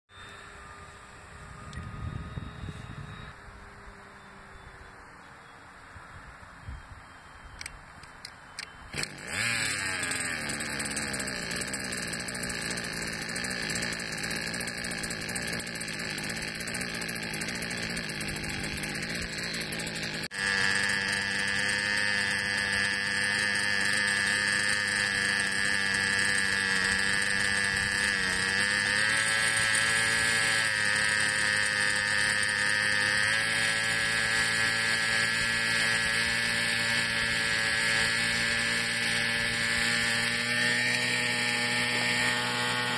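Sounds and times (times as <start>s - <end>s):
small gasoline engine running: 0.1s - 4.9s, 8.6s - 42.9s.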